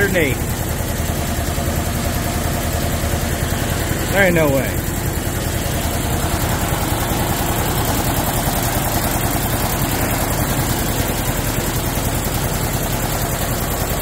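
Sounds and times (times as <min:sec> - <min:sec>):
air compressor droning: 0:00.0 - 0:14.0.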